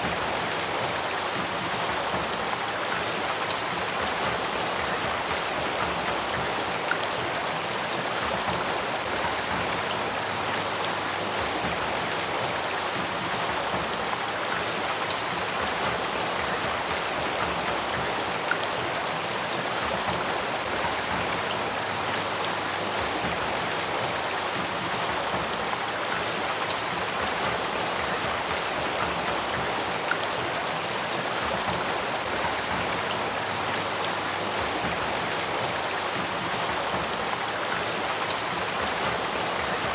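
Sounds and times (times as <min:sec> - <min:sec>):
stream flowing: 0:00.0 - 0:39.9
water dripping: 0:00.0 - 0:39.9.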